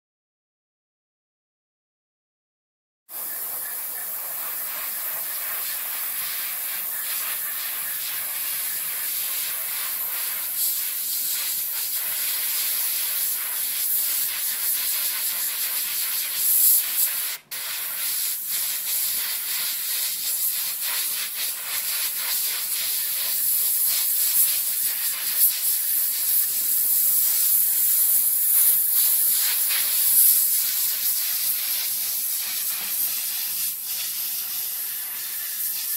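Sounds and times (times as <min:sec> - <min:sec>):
airbrush hissing: 0:03.1 - 0:35.9.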